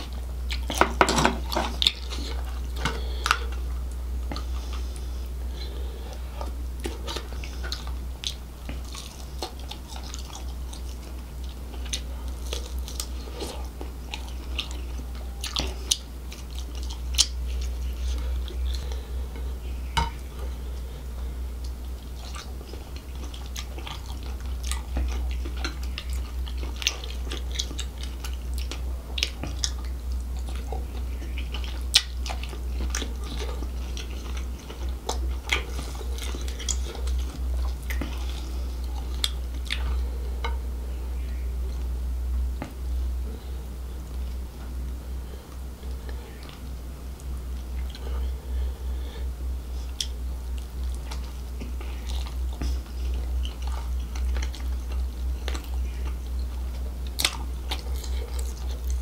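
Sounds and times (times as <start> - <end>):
wet chewing and sucking: 0.0 - 40.6, 49.7 - 59.0
steady low hum: 0.0 - 59.0.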